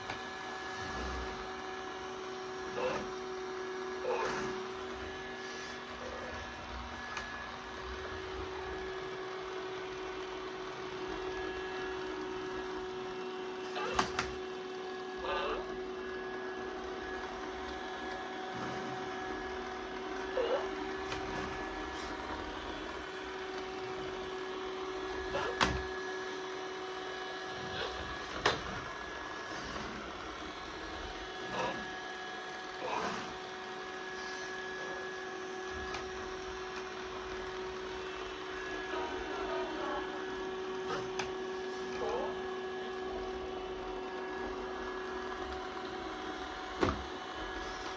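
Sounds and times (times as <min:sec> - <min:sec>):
robot vacuum cleaner humming: 0:00.0 - 0:47.9.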